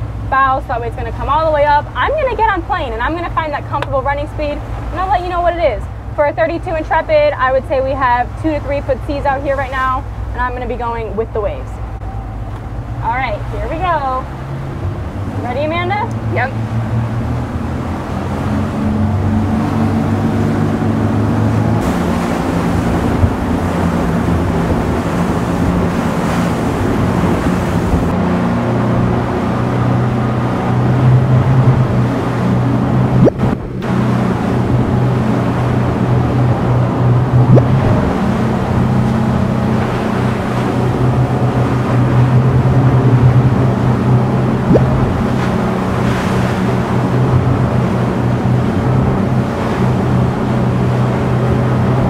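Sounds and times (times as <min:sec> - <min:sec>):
boat engines running: 0:00.0 - 0:52.0
wind and water rushing: 0:00.0 - 0:52.0.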